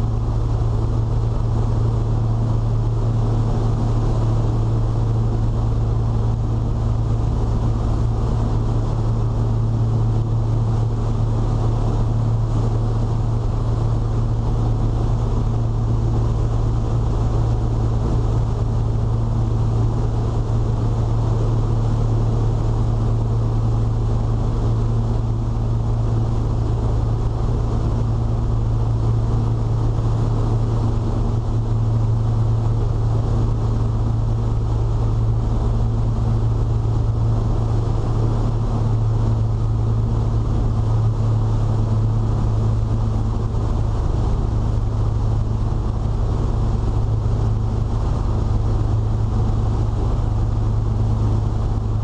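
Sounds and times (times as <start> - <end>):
boat engines droning: 0.0 - 52.0
water and wind rushing: 0.0 - 52.0.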